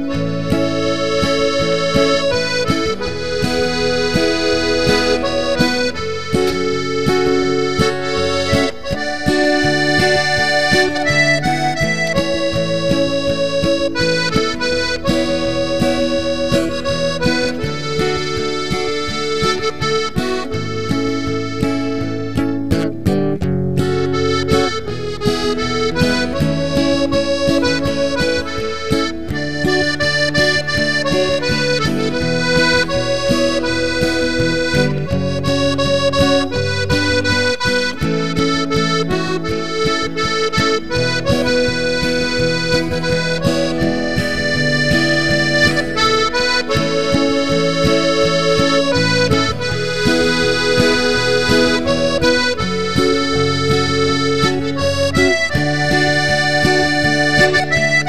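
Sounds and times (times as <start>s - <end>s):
accordion music: 0.0s - 58.0s.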